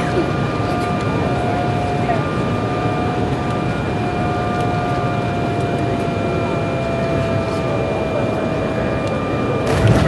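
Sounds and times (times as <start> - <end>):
jet engine and airflow rush: 0.0 - 10.0
multi-tone engine whine: 0.0 - 10.0.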